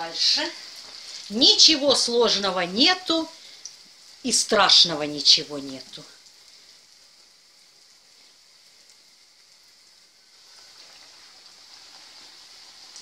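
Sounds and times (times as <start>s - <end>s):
frying in hot oil sizzling: 0.0s - 13.0s.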